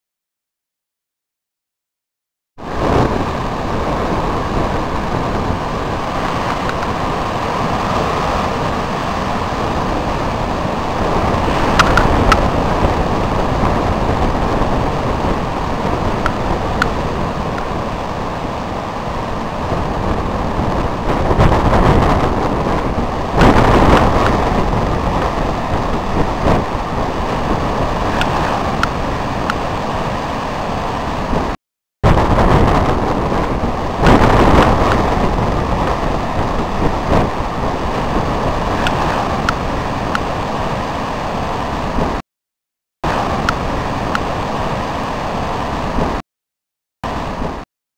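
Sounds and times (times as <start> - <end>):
ocean surf breaking: 2.6 - 42.2, 43.0 - 46.2, 47.0 - 47.6
wind on microphone: 2.6 - 42.2, 43.0 - 46.2, 47.0 - 47.6.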